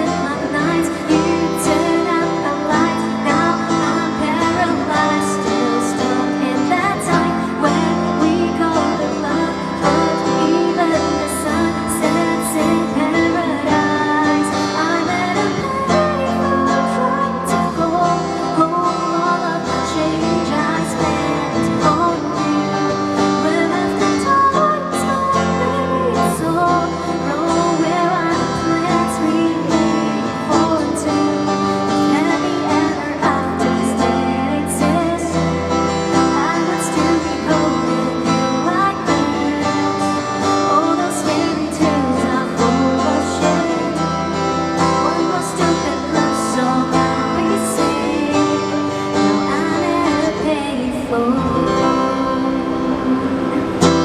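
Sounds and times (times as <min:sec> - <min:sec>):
guitar: 0:00.0 - 0:54.0
person singing: 0:00.0 - 0:54.0.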